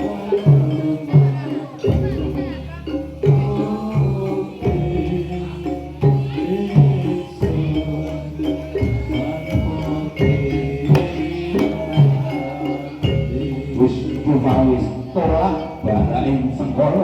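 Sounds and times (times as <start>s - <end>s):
drum beat: 0.0s - 17.0s
pitched percussion ensemble: 0.0s - 17.0s.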